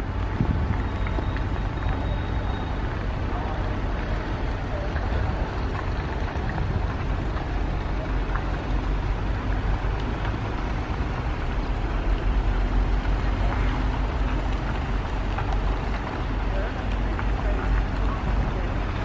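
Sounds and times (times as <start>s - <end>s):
diesel engines running with low rumble: 0.0s - 19.0s.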